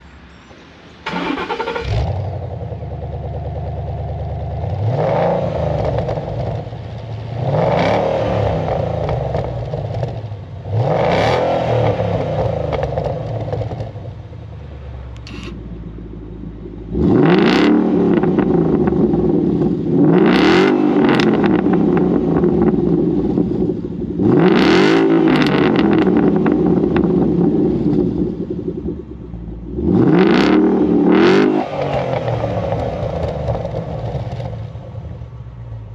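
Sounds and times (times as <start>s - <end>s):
car engine idling with throttle blips: 0.0s - 35.9s.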